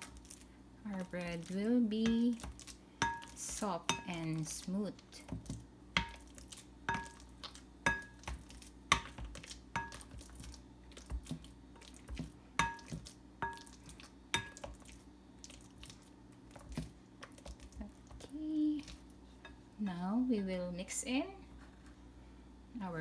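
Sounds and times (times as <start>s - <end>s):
masher mashing bananas: 0.0s - 19.6s.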